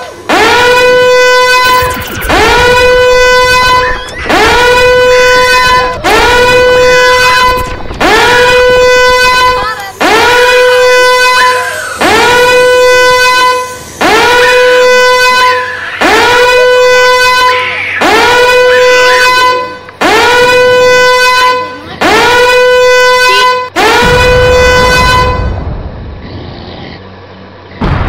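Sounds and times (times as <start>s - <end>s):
loud horn blasts: 0.0s - 25.7s.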